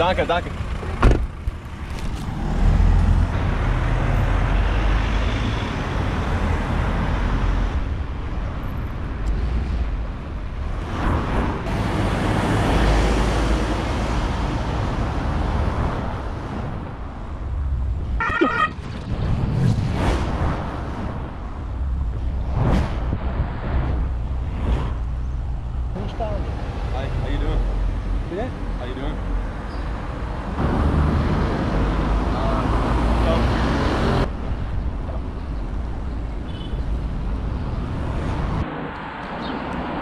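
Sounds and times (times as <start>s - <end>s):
cars passing close by: 0.0s - 40.0s.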